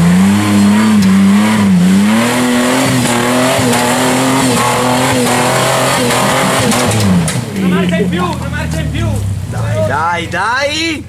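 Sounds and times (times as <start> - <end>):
off-road engine revving hard: 0.0 - 10.5.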